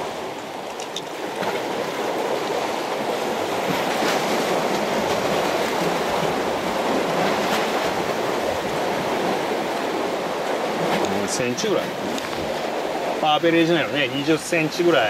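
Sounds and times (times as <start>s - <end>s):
seawater washing against breakwater: 0.0s - 15.0s.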